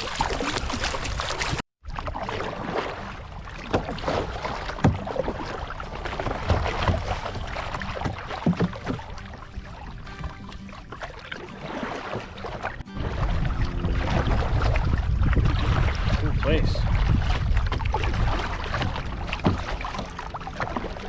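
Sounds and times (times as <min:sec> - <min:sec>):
paddle splashing water: 0:00.0 - 0:21.0
steady water wash: 0:00.0 - 0:21.0.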